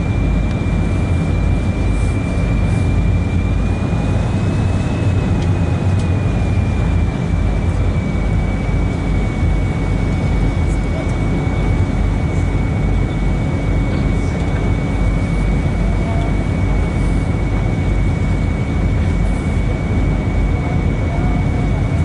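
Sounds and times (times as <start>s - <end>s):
boat engines rumbling: 0.0s - 22.0s
faint high whine: 0.0s - 22.0s.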